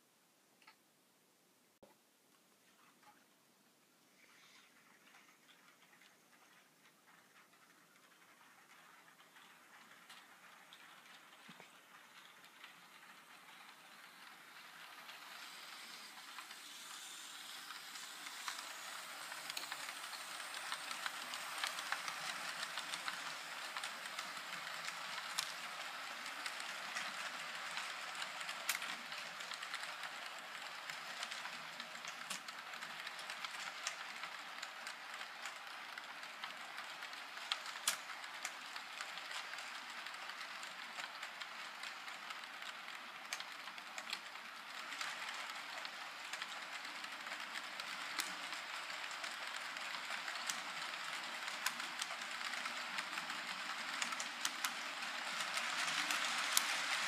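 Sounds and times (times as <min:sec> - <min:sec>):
model train wheels whirring: 0:04.0 - 0:57.0.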